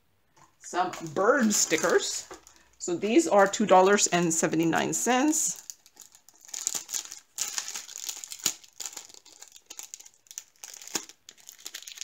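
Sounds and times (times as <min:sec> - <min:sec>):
plastic packaging crinkling: 0:00.9 - 0:12.0.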